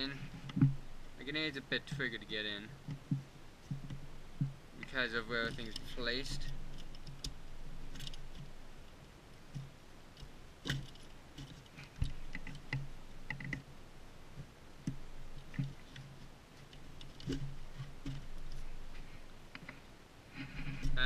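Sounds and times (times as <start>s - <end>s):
gear clicks and knocks: 0.0s - 19.8s.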